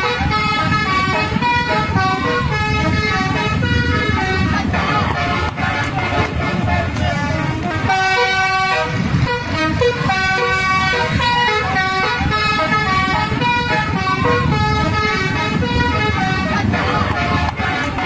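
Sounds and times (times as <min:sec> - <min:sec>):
low rumbling noise: 0:00.0 - 0:18.0
multi-tone bus air horn jingle: 0:00.0 - 0:18.0.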